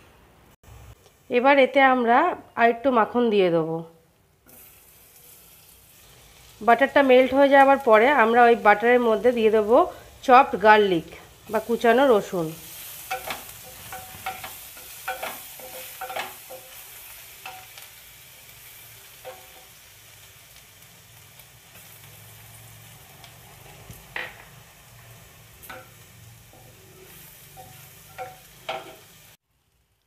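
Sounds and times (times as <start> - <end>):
garlic sizzling in butter: 4.2 - 30.0.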